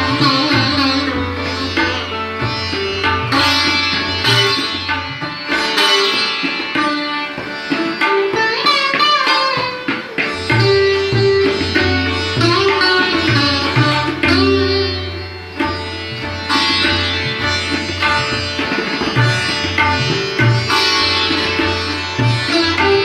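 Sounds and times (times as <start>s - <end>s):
sitar playing: 0.0s - 23.0s.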